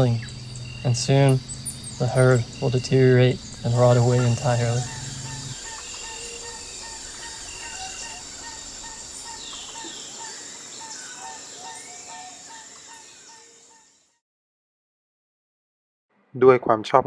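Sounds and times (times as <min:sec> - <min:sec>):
birds chirping: 0:00.0 - 0:14.2
insects trilling: 0:00.0 - 0:14.2.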